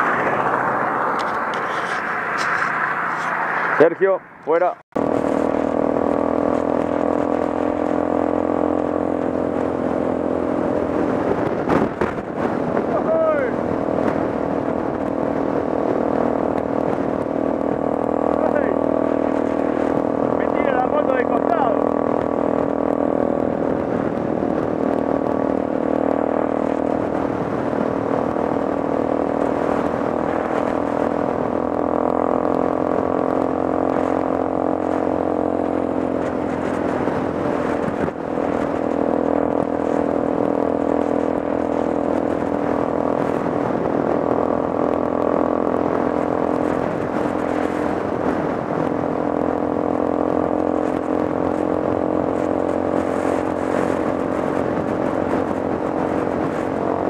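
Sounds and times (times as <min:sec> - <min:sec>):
off-road vehicle engine cruising: 0:00.0 - 0:57.0
road noise: 0:00.0 - 0:57.0
wind noise: 0:00.0 - 0:57.0.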